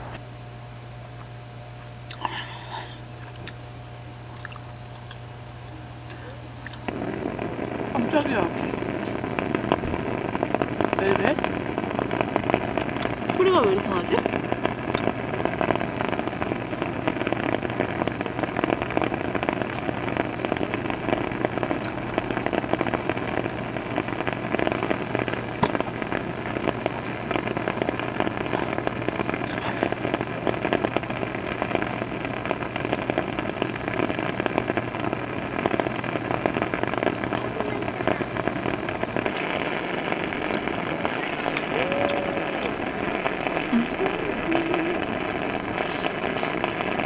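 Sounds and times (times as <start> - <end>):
flame crackling and sputtering: 0.0 - 47.0.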